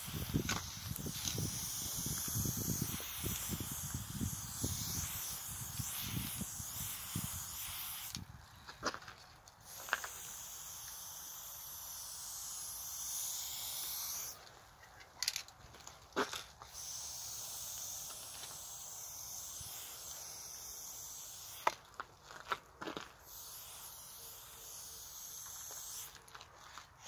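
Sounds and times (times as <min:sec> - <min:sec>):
spray paint can hissing: 0:00.0 - 0:08.9, 0:09.6 - 0:14.5, 0:16.2 - 0:27.0.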